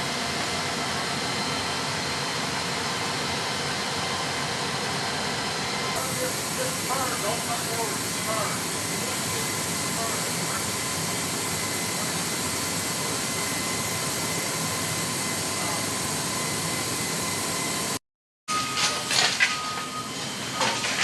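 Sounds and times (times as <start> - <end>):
jet engine with high whine: 0.0 - 21.0.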